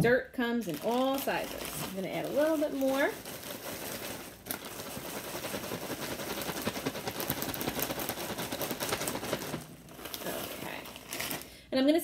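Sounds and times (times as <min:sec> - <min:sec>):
plastic bag crinkling: 0:00.5 - 0:11.7.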